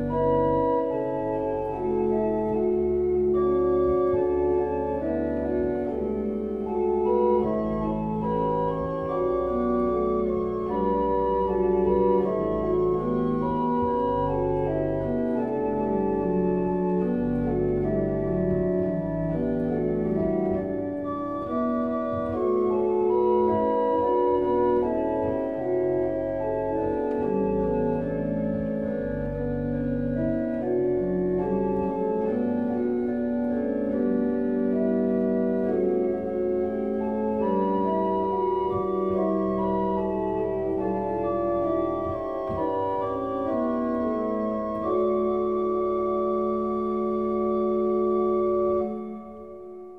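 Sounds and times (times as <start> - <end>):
organ chords: 0.0 - 49.9.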